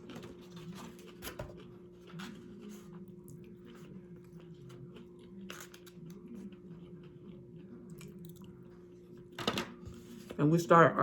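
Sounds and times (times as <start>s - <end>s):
chewing and crunching chips: 0.0s - 9.4s.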